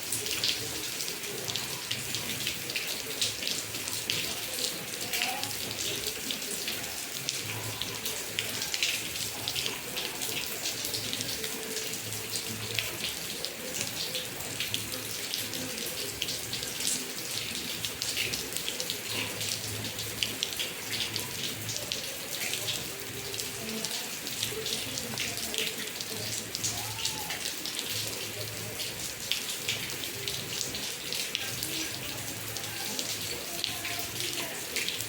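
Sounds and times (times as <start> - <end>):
rain falling: 0.0 - 35.0
water running off: 0.0 - 35.0.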